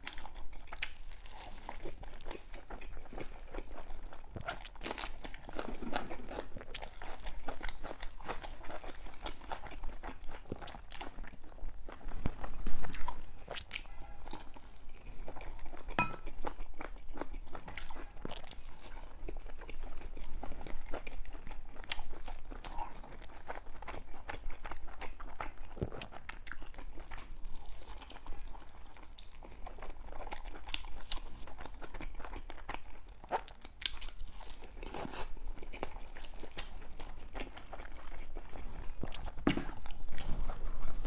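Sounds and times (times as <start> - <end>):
person eating crunchy food: 0.0 - 41.0.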